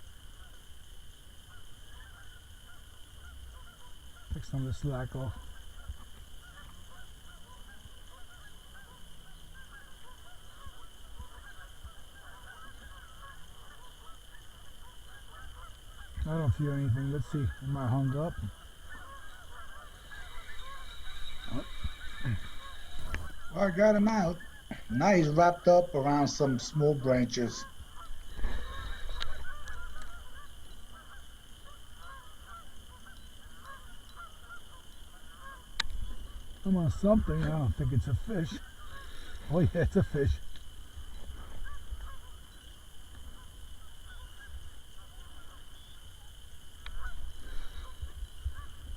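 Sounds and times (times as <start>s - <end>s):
geese honking: 0.0s - 48.9s.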